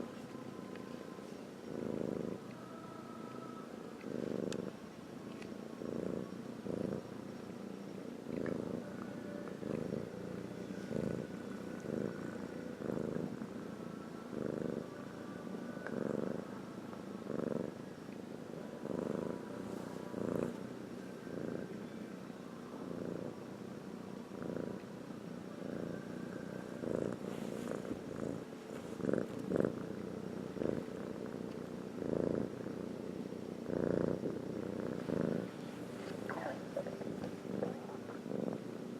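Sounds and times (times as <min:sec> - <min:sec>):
pet snoring: 0:01.6 - 0:02.8, 0:04.0 - 0:04.8, 0:05.8 - 0:13.7, 0:14.3 - 0:15.1, 0:15.7 - 0:16.5, 0:17.2 - 0:20.6, 0:21.2 - 0:21.8, 0:22.8 - 0:38.9.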